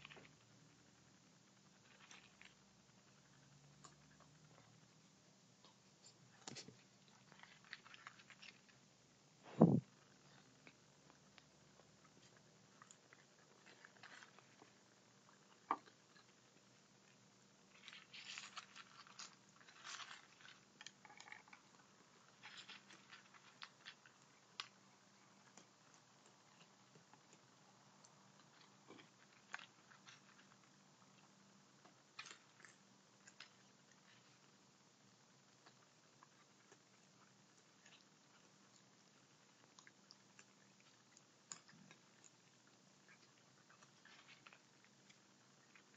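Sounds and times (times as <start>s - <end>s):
raccoons crunching kibble: 0.0s - 45.9s.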